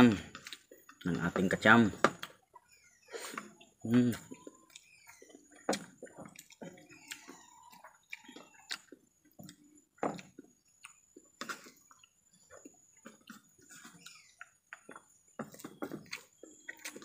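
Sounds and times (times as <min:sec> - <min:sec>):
chewing and lip smacks: 0:02.2 - 0:17.0.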